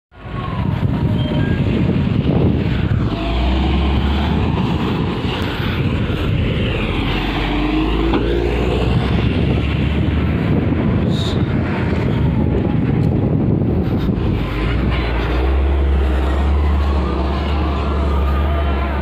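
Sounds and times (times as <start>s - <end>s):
vehicle running low rumble: 0.1s - 19.0s
wind noise on microphone: 0.1s - 19.0s.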